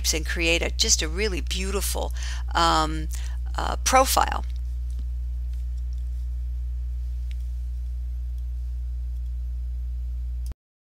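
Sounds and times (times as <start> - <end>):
low electrical hum: 0.0 - 10.6.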